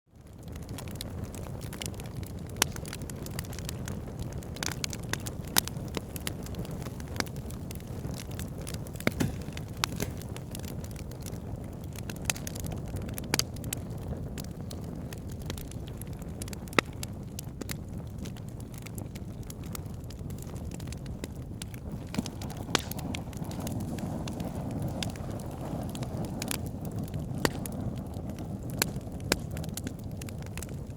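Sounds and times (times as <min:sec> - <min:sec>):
low fire rumble: 0:00.1 - 0:30.9
wood fire crackling and popping: 0:00.2 - 0:30.9.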